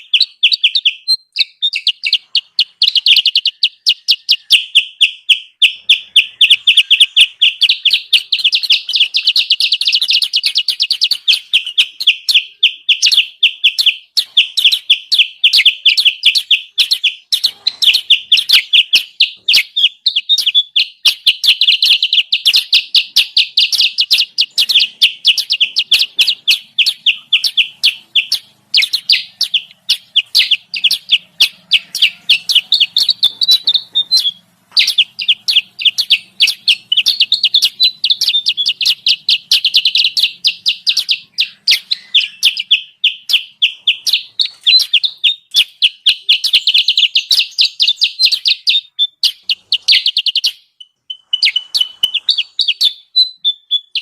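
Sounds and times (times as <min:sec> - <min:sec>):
high bird chirps: 0:00.0 - 0:54.0.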